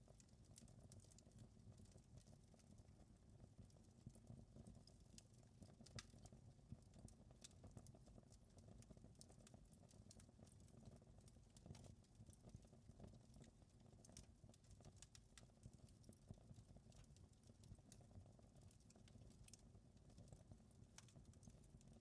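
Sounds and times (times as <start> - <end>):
wood fire crackling: 0.1 - 22.0.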